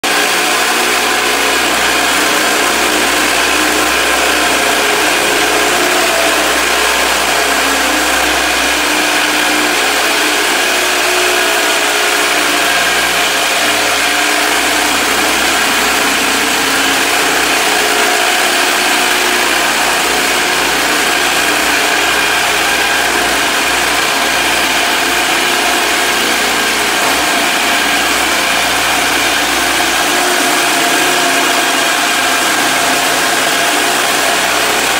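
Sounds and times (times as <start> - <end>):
floor stripper running: 0.0 - 34.9.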